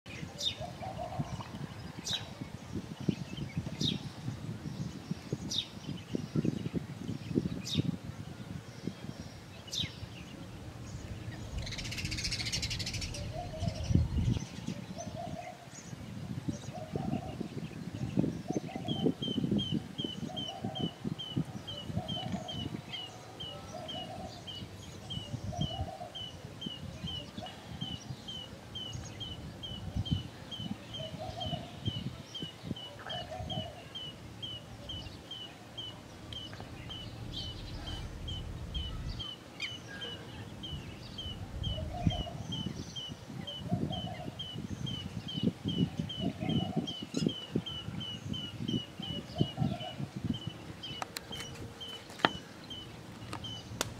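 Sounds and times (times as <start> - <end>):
birds chirping high: 0.0 - 53.9
bird hollow low notes: 0.1 - 53.9
wind rumble on microphone: 0.1 - 53.9.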